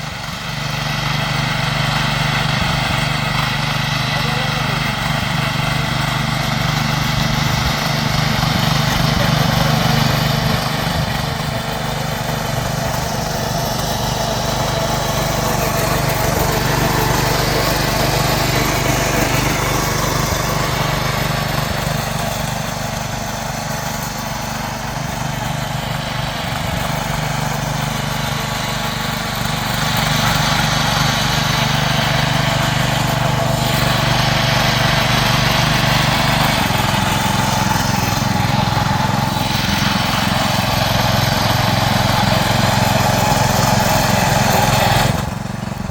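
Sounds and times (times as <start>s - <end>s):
small petrol engine running: 0.0s - 45.9s.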